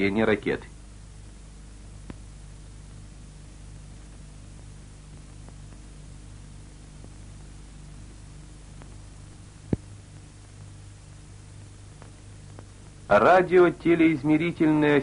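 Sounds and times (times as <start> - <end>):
film soundtrack hiss and hum: 0.0 - 15.0.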